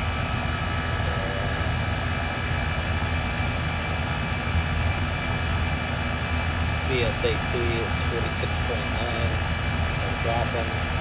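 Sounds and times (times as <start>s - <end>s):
compressor low hum: 0.0s - 11.0s.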